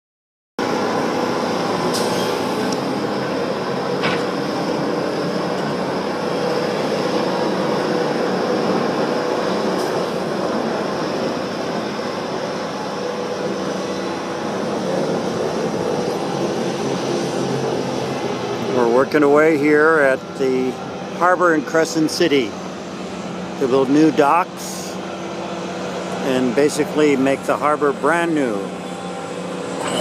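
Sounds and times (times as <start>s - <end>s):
heavy diesel engine running: 0.6s - 30.0s.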